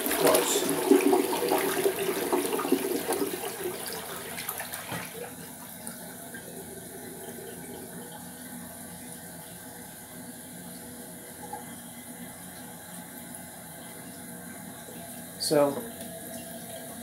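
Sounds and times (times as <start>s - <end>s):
toilet flushing: 0.0s - 17.0s.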